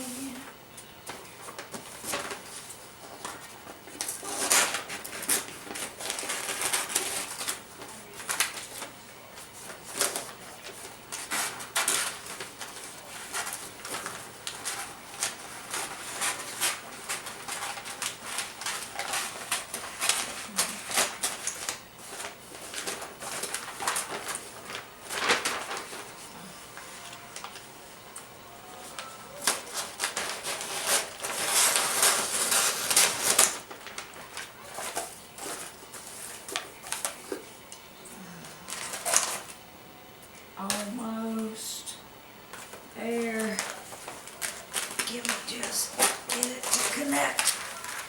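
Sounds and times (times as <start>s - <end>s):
wrapping paper crinkling: 1.0s - 37.6s, 38.6s - 39.6s, 42.5s - 48.0s.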